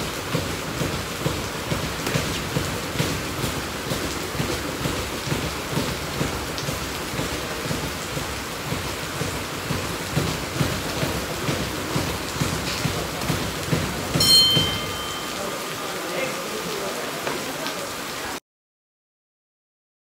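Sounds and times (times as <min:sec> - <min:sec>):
steady rain-like hiss: 0:00.0 - 0:18.4.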